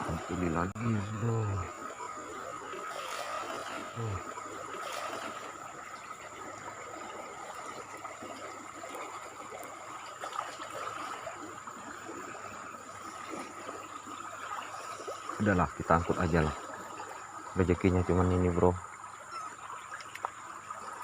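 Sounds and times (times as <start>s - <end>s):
river current hissing: 0.0s - 21.0s.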